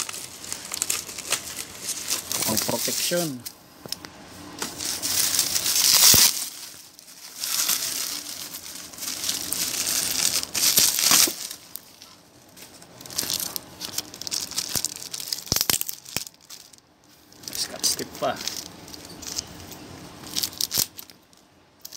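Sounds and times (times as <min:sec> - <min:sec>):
bubble wrap crinkling and rustling: 0:00.0 - 0:21.9.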